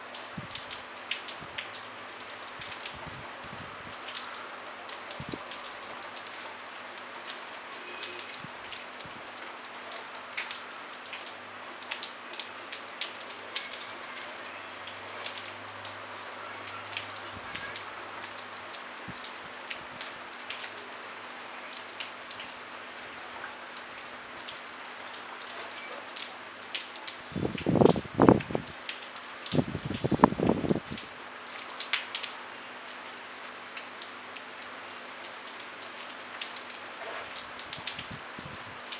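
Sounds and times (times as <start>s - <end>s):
light rain: 0.0s - 38.9s
raindrop ticks: 0.1s - 38.2s.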